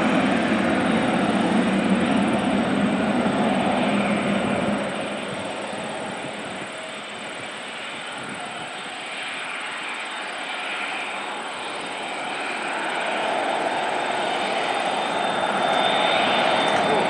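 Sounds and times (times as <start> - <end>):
jet engine rumble and hiss: 0.0 - 17.0.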